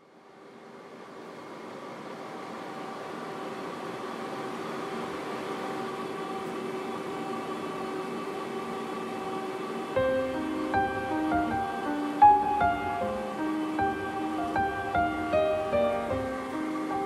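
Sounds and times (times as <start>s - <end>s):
faint steady hum tones: 0.0s - 17.0s.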